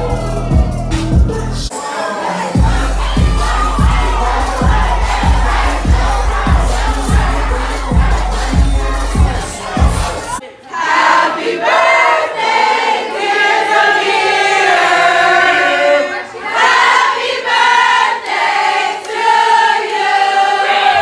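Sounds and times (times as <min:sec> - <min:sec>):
crowd singing together: 0:00.0 - 0:21.0.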